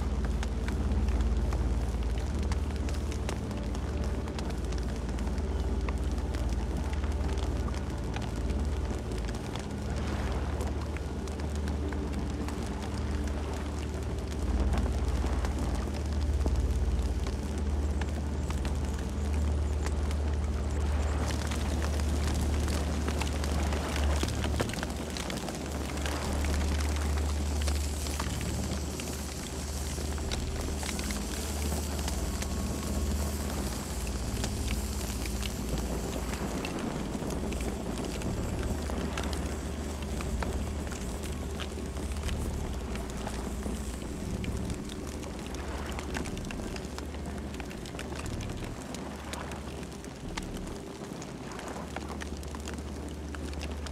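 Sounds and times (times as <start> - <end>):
low rumble of flames: 0.0 - 53.9
wood crackling and popping: 0.0 - 53.9.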